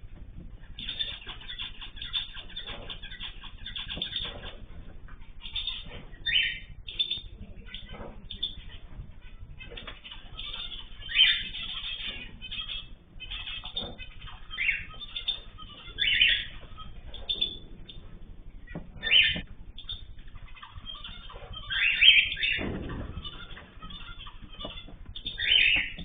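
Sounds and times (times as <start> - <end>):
cage birds chirping and calling: 0.0 - 26.0.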